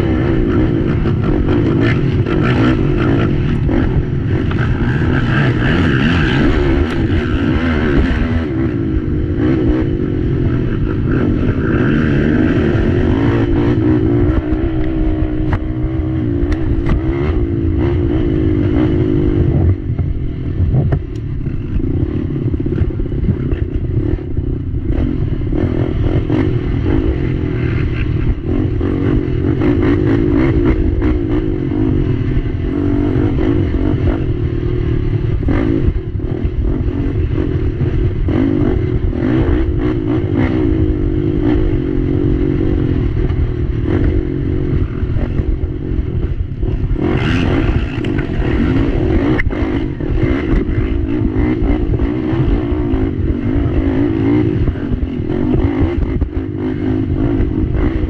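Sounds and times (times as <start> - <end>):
quad engine running hard: 0.0 - 58.0.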